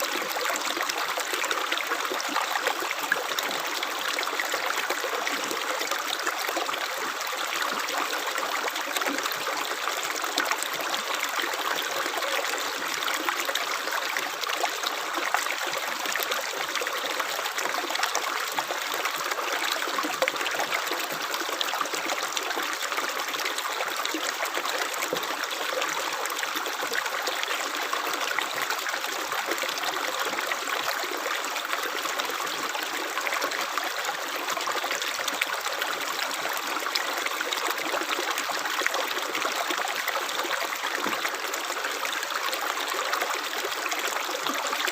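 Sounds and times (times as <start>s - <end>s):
stream trickling and babbling: 0.0s - 44.9s.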